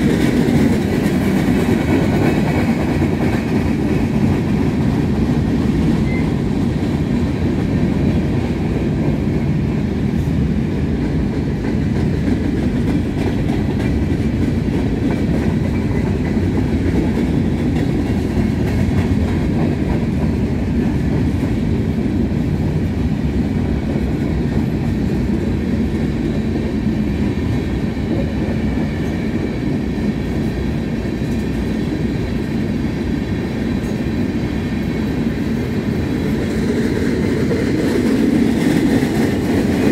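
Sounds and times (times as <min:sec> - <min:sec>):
freight train wheels rumbling: 0:00.0 - 0:39.9
wheels clickety-clack: 0:00.0 - 0:39.9.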